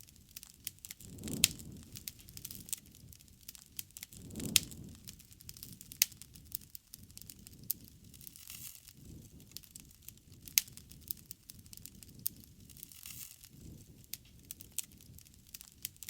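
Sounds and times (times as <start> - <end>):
fire popping and snapping: 0.0 - 16.0
low rumble of flames: 0.0 - 16.0
wood fire crackling: 0.0 - 16.0.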